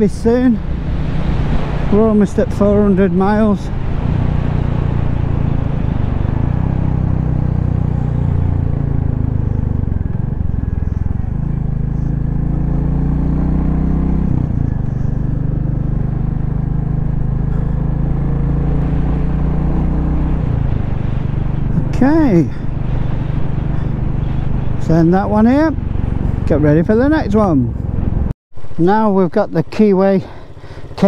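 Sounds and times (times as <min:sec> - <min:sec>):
motorcycle engine running: 0:00.0 - 0:28.3, 0:30.2 - 0:31.0.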